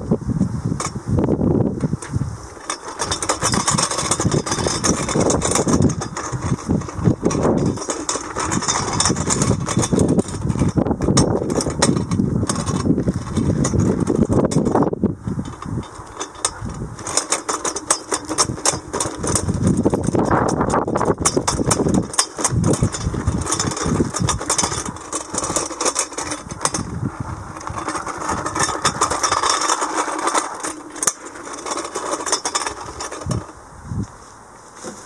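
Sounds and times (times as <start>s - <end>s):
wheels crunching over gravel: 0.0s - 35.0s
hub motors running: 1.8s - 33.7s.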